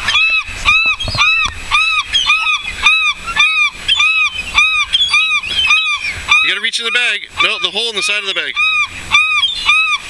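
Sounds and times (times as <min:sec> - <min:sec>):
seagulls calling: 0:00.0 - 0:10.0.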